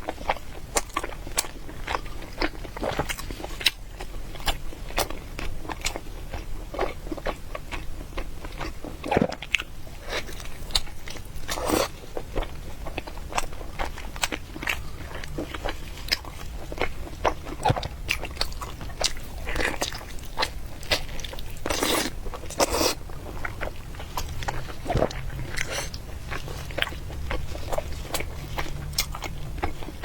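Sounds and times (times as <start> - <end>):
person chewing and biting: 0.2 - 30.0.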